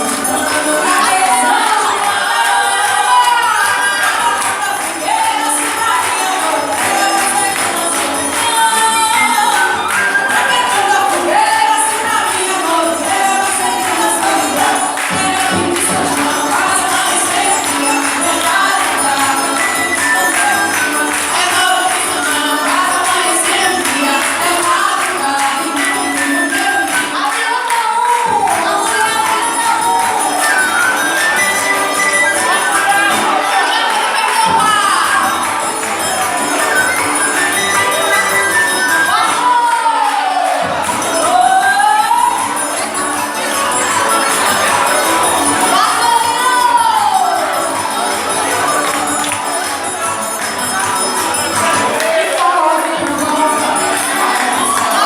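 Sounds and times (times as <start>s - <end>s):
jingling hand percussion: 0.0s - 55.0s
voices singing together: 0.0s - 55.0s.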